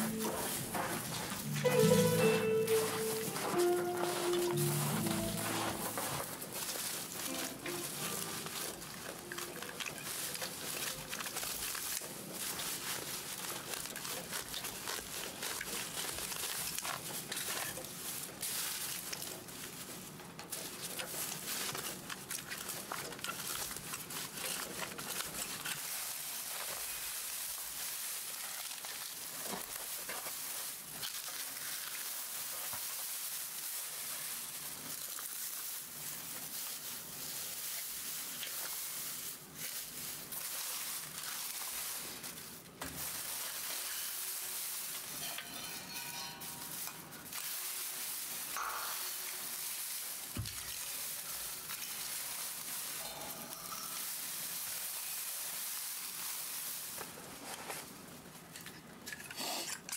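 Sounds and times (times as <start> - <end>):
steady hiss: 0.0 - 58.5
dry grass crackling and rustling: 0.0 - 59.2.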